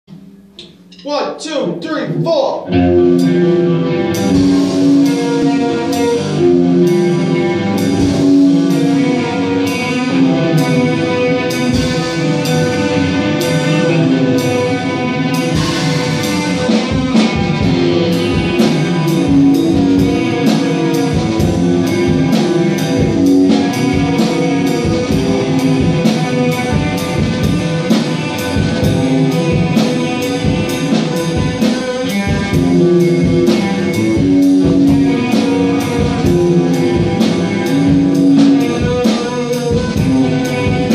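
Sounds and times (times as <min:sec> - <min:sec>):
drum kit beat: 0:00.0 - 0:40.9
electric guitar chords: 0:01.8 - 0:40.9.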